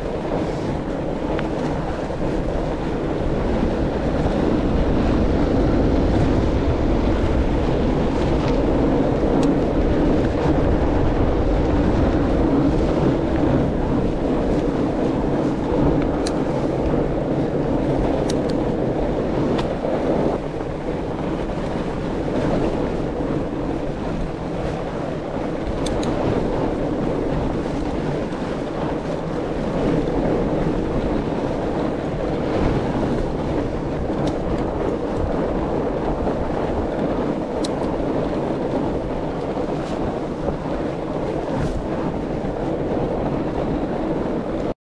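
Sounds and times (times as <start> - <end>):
bike tyres rolling through snow: 0.0 - 44.7
wind on microphone: 0.0 - 44.8.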